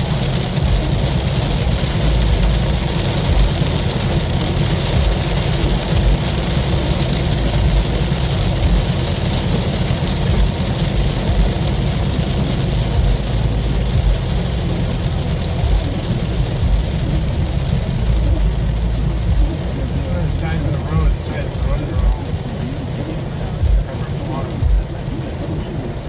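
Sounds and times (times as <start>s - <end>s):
heavy rain drumming on car: 0.0s - 26.0s
road and engine rumble: 0.0s - 26.0s.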